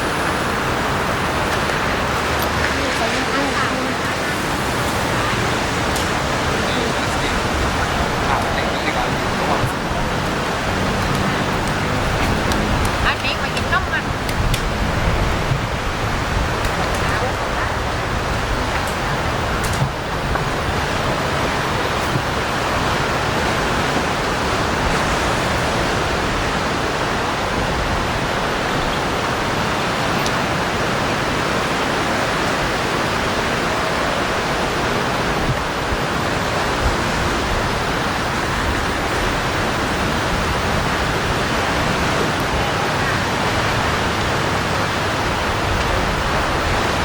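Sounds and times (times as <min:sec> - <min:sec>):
steady rushing noise: 0:00.0 - 0:47.0.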